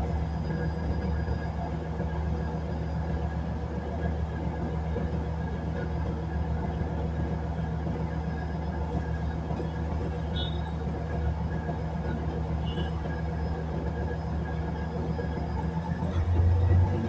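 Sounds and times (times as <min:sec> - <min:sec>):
railbus engine drone: 0:00.0 - 0:17.0.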